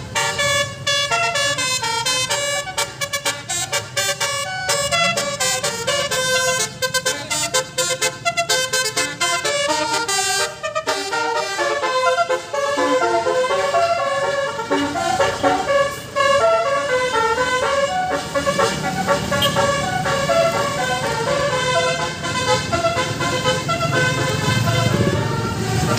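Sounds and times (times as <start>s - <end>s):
musical bus air horns: 0.0s - 25.9s.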